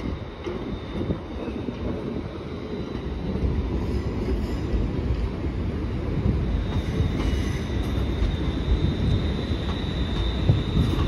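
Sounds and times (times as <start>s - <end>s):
train rolling past rumbling: 0.0s - 11.0s.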